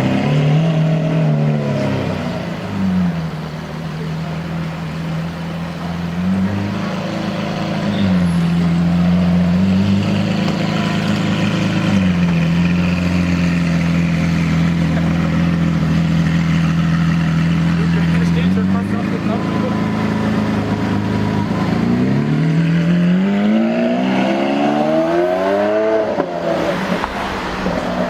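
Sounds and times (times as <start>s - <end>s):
sports car engine idling and revving: 0.0s - 28.0s.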